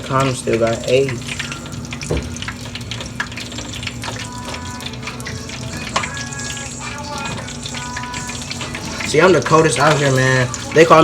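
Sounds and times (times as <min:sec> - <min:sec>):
water running from faucet: 0:00.0 - 0:11.0.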